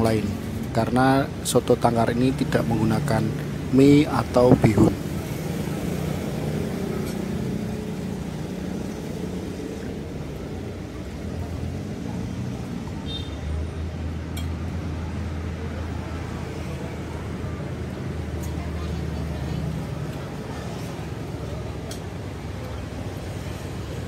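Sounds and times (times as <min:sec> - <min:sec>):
road traffic hum: 0:00.0 - 0:24.0.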